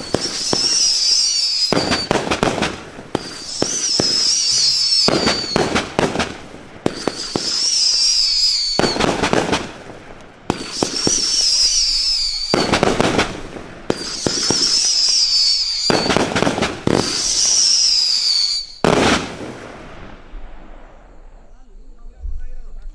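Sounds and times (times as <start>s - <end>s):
firework bangs and crackles: 0.0s - 21.6s
firework high whistle: 0.0s - 22.2s.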